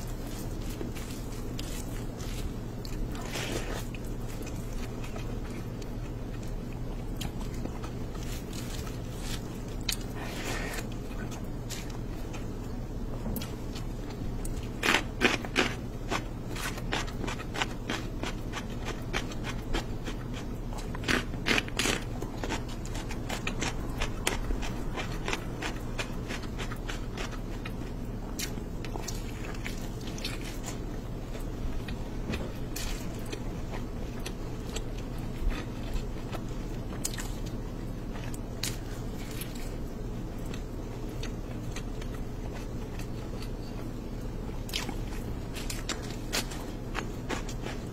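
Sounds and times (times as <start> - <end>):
wet squishing of food: 0.0 - 43.6
steady low hum: 0.0 - 47.9.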